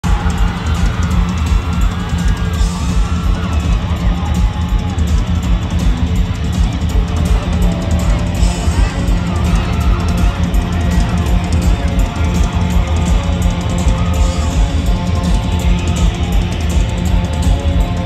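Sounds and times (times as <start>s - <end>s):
live rock band playing: 0.0s - 18.0s
pounding drum kit: 0.0s - 18.0s.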